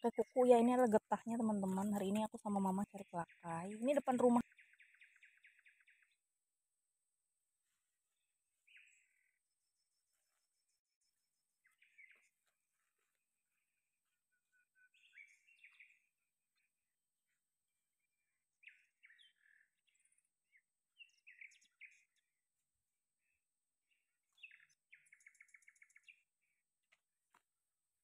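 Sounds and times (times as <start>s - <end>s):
faint bird chirping: 0.0s - 26.8s.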